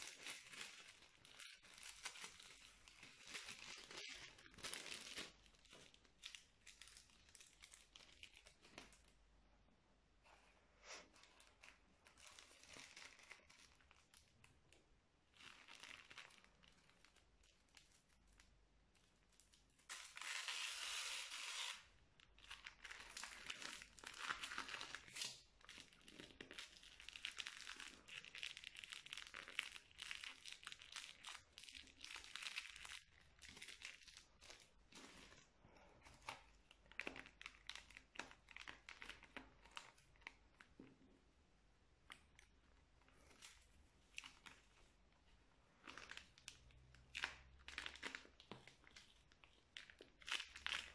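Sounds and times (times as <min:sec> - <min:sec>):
plastic bags crinkling: 0:00.0 - 0:09.2, 0:11.1 - 0:41.0, 0:42.1 - 0:50.9.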